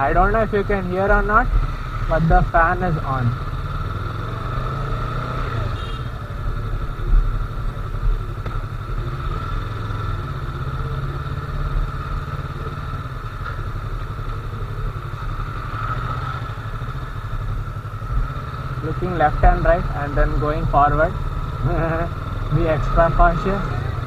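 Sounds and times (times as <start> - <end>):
motorcycle engine at low revs: 0.0 - 24.0.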